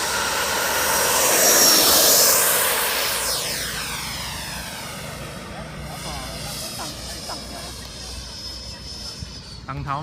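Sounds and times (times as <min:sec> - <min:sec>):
model jet fan flying past: 0:00.0 - 0:10.0.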